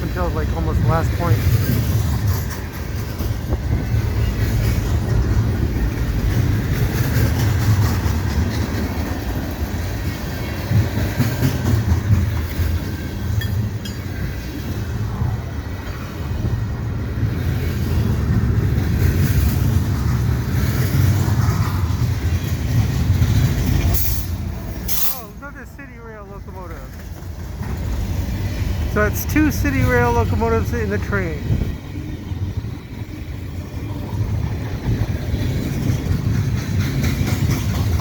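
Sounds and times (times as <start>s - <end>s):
freight train wheels rumbling on rail: 0.0s - 38.0s
train cars rattling: 0.0s - 38.0s.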